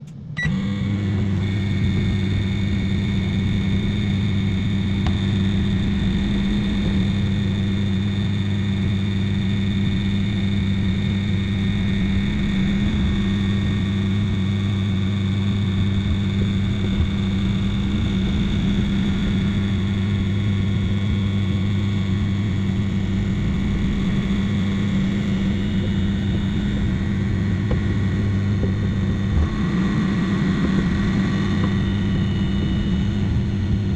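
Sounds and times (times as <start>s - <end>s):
microwave oven humming: 0.0s - 33.9s.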